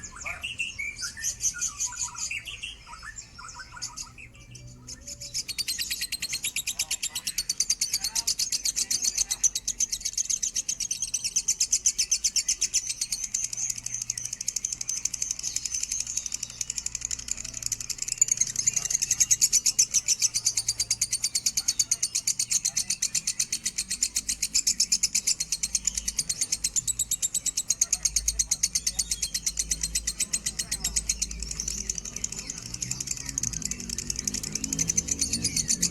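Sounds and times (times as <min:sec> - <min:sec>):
lovebird chattering trill: 0:05.0 - 0:35.9.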